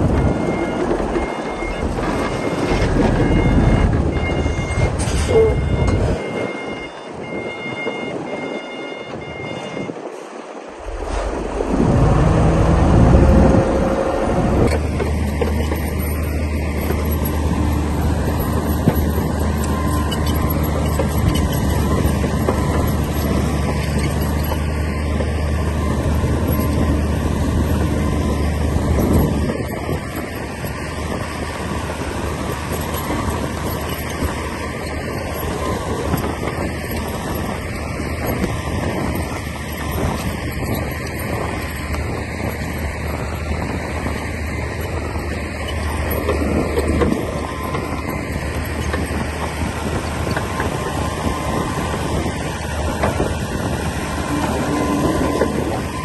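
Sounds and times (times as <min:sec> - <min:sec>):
reversing alarm beeping: 0:00.0 - 0:10.0, 0:10.8 - 0:31.3, 0:32.4 - 0:56.0
diesel engine revving under load: 0:10.7 - 0:56.0.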